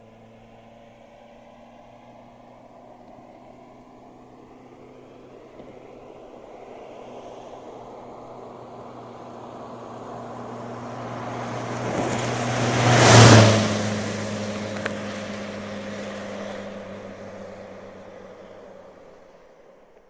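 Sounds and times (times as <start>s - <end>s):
car passing by fast: 2.0s - 20.0s.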